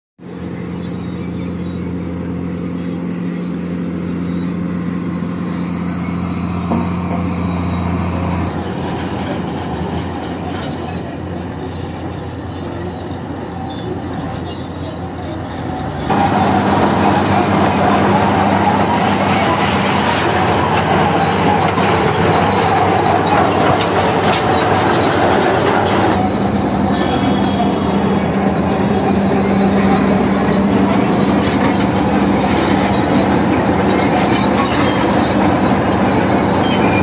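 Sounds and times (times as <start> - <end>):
bulldozer engine and steel tracks: 0.2 - 37.0
heavy diesel engines droning: 0.2 - 37.0.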